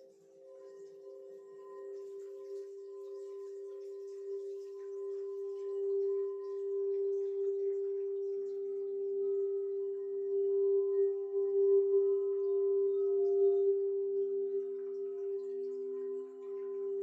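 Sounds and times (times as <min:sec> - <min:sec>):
lower singing bowl tone: 0:00.0 - 0:17.0
singing bowl sustained tone: 0:00.0 - 0:17.0.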